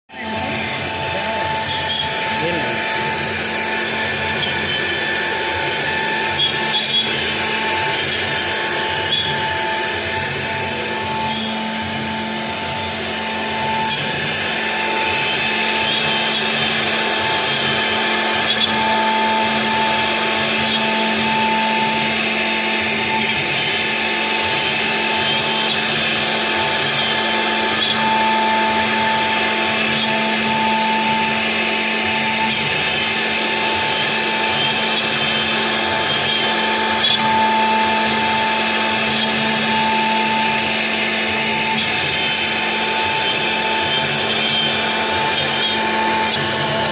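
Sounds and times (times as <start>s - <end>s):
router spindle whining: 0.0s - 46.9s
cutting noise: 0.1s - 46.9s.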